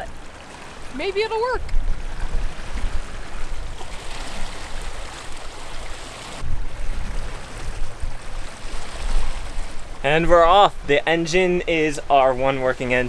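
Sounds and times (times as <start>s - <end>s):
wind rumbling on microphone: 0.0s - 12.2s
water rushing and splashing: 0.0s - 13.0s.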